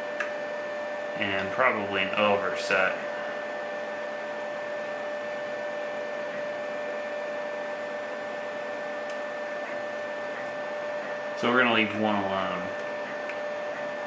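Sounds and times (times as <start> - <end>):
three d printer whirring: 0.0 - 14.0.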